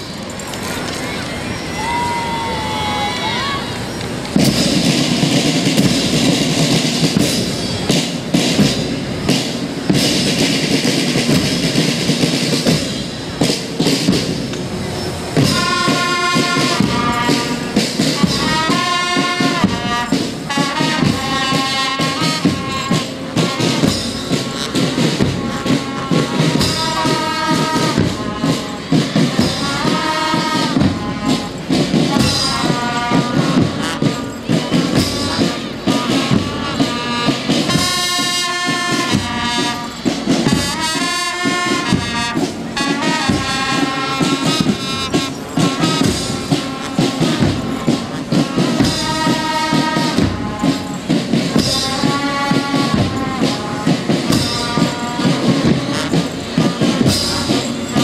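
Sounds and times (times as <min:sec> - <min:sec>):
snare and bass drums: 0:04.1 - 0:58.0
brass horns playing melody: 0:04.4 - 0:58.0.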